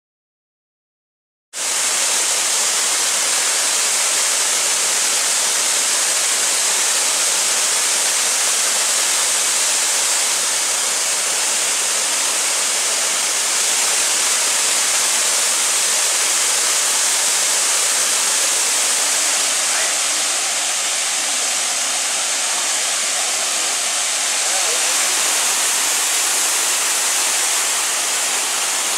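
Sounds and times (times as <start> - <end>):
waterfall rushing: 1.6 - 28.9.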